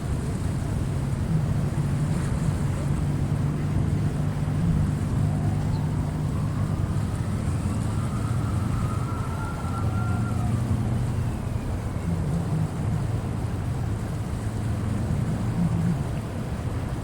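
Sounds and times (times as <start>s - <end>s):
faint gliding tone: 0.0s - 16.7s
low engine hum: 0.0s - 17.0s
sea waves at the shore: 0.0s - 17.0s
wind: 0.0s - 17.0s.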